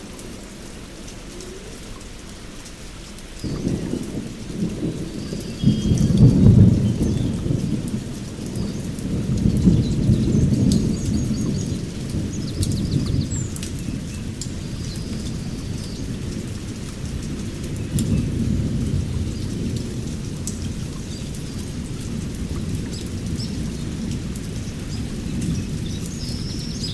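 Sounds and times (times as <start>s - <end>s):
rain: 0.0s - 26.9s
thunder rumbling: 3.4s - 26.9s.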